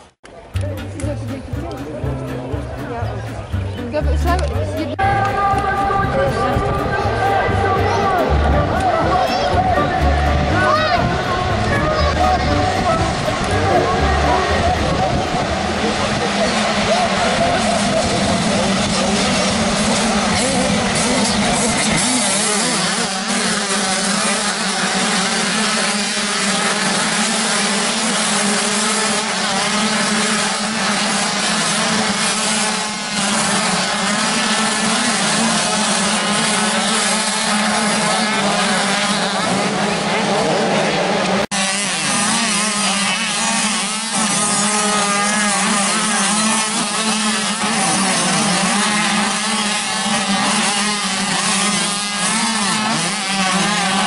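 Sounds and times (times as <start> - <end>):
motocross bikes racing: 0.0 - 54.0.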